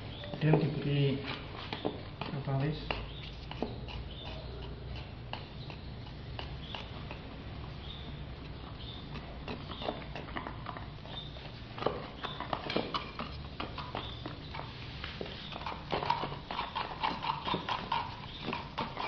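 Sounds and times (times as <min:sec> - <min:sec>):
steady low hum: 0:00.0 - 0:19.0
stirring stick scraping container: 0:00.4 - 0:10.3, 0:11.1 - 0:19.0.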